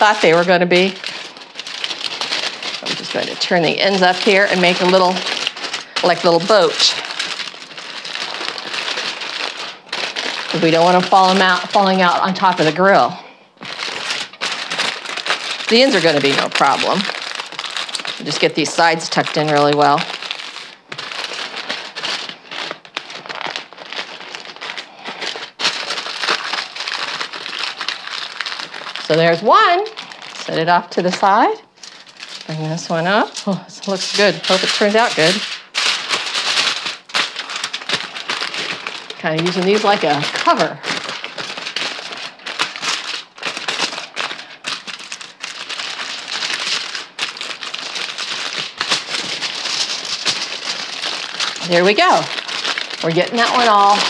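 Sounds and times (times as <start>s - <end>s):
aluminum foil crinkling: 0.0s - 54.0s.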